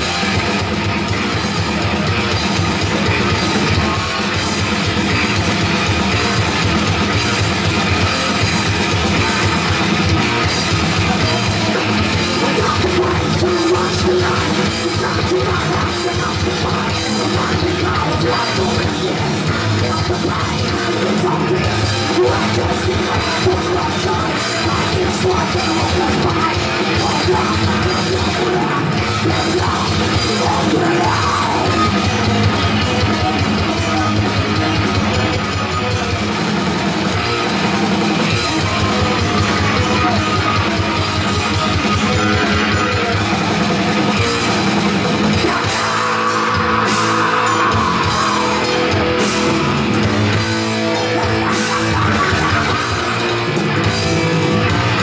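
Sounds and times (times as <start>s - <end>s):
distorted electric guitars: 0.0s - 55.0s
drum kit: 0.0s - 55.0s.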